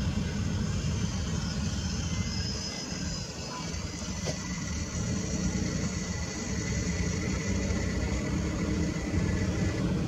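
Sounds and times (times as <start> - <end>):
jet engines rumbling at takeoff: 0.0 - 10.0.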